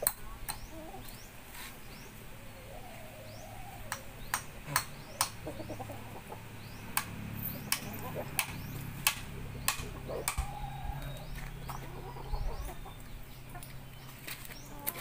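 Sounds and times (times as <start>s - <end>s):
bird chirps: 0.1s - 15.0s.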